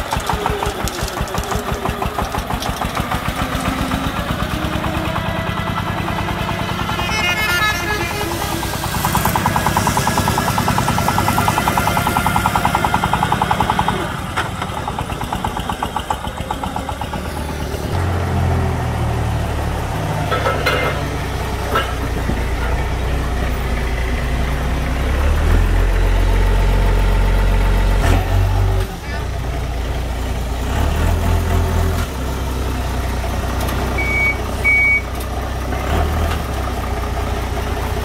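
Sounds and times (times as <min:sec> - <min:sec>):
diesel truck engine running: 0:00.0 - 0:38.0
forklift diesel engine running: 0:00.0 - 0:38.0.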